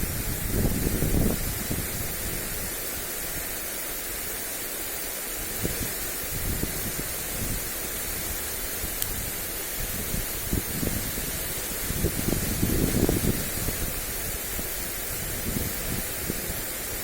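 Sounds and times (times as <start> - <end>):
wind rumbling on microphone: 0.0 - 3.6, 5.3 - 17.0
sprinkler spraying water: 0.0 - 17.0.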